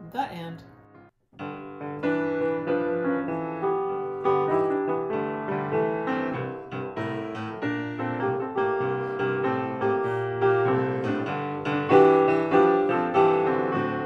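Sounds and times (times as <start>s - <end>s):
piano piece: 0.0s - 14.0s.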